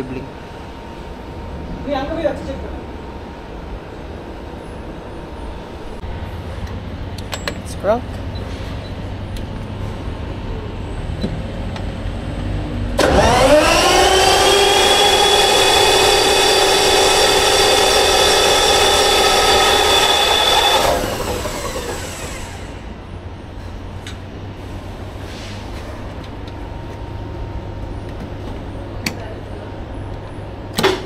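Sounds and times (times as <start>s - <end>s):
diesel generator engine whine: 0.0s - 30.8s.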